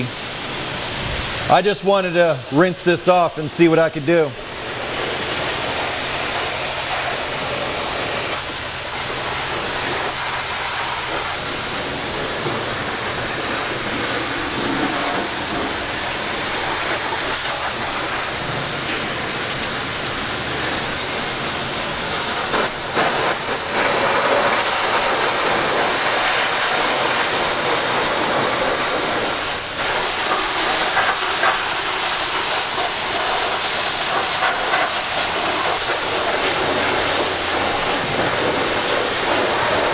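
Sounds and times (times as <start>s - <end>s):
high-pressure water spray hiss: 0.0s - 39.9s.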